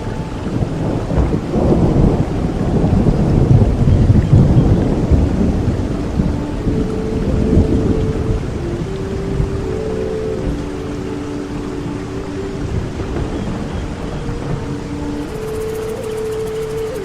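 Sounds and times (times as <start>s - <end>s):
deep roll of thunder: 0.0s - 9.6s, 12.5s - 17.0s
steady rain: 0.0s - 17.0s.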